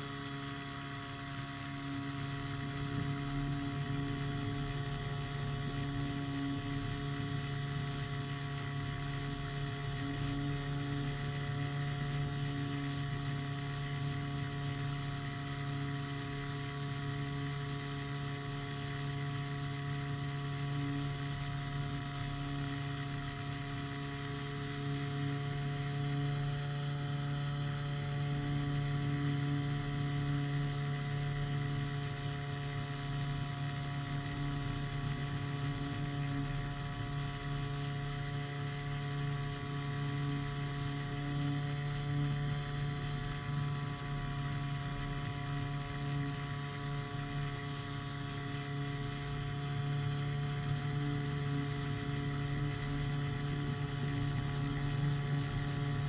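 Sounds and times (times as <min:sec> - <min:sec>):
hang glider engine droning: 0:00.0 - 0:56.0.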